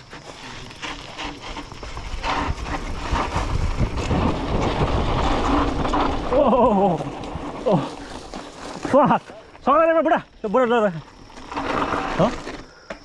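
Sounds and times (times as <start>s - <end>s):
rushing rumble of tyres and air: 0.0s - 8.9s, 11.1s - 13.0s
mountain bike rattling: 0.0s - 12.9s.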